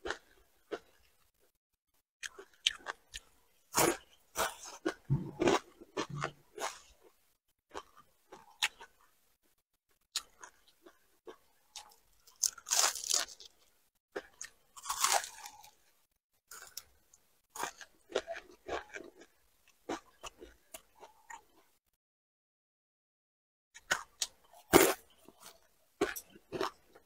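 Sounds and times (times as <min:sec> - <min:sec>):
crunching and chewing fried fish: 0:00.0 - 0:01.5, 0:02.2 - 0:09.2, 0:09.9 - 0:21.8, 0:23.8 - 0:27.0.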